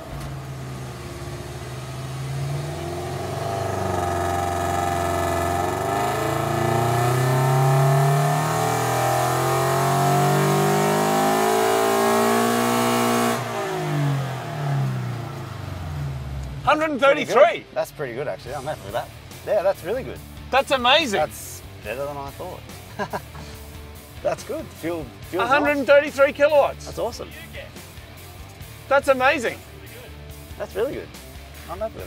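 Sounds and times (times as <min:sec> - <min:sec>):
car engine revving at full throttle: 0:00.0 - 0:17.3, 0:18.5 - 0:32.0.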